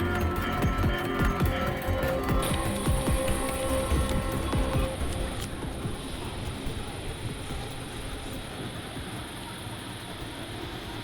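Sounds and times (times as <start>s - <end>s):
heavy machinery rumbling: 0.0s - 11.0s.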